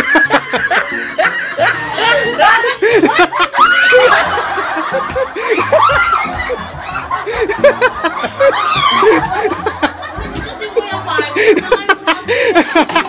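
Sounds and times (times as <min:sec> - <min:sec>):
people laughing hard: 0:00.0 - 0:13.0.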